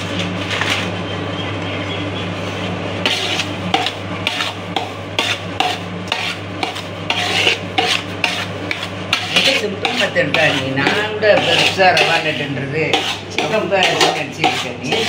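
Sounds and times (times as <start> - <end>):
ladle scraping a metal pot: 2.5 - 15.0.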